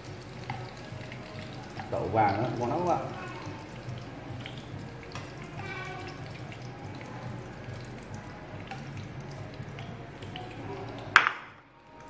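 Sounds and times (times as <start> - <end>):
oil sizzling and popping: 0.0 - 12.0.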